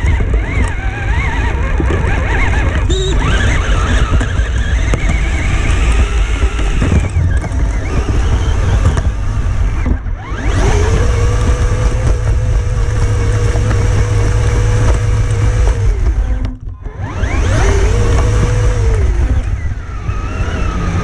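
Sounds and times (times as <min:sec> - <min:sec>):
electric motor and gears whining: 0:00.0 - 0:21.0.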